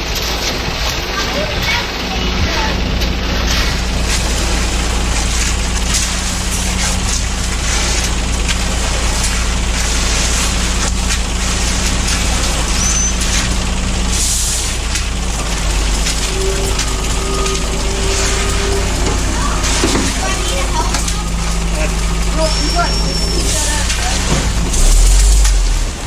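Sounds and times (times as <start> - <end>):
large engine running: 0.0 - 26.0.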